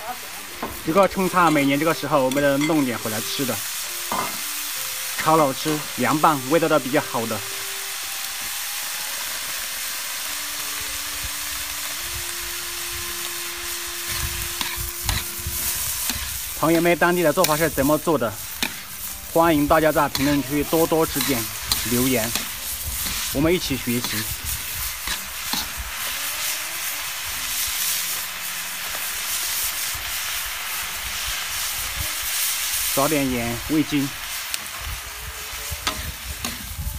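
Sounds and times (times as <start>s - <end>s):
food sizzling in a wok: 0.0s - 36.9s
spatula scraping wok: 0.6s - 7.3s, 11.8s - 36.9s.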